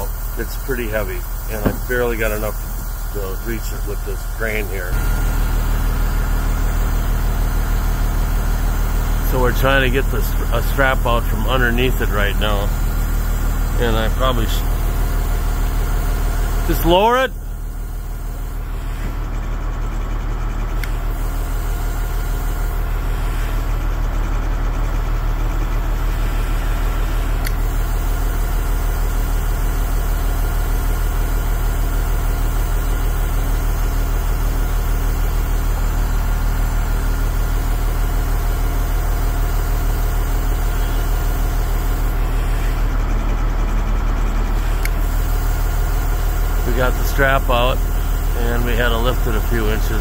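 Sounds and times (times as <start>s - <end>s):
crane engine humming: 0.0s - 50.0s.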